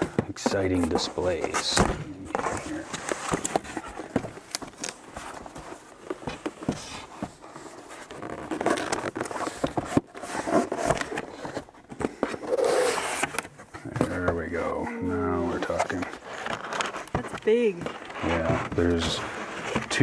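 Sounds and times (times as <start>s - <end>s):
cardboard scraping and rubbing: 0.0s - 20.0s.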